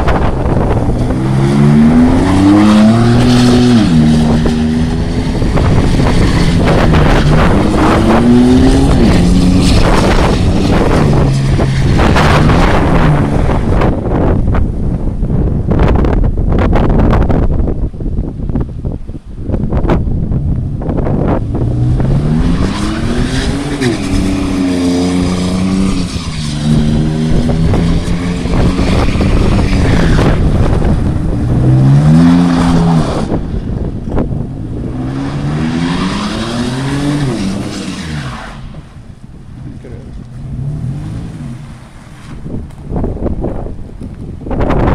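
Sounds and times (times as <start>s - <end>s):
tires spinning on wet asphalt: 0.0s - 16.1s, 19.6s - 44.9s.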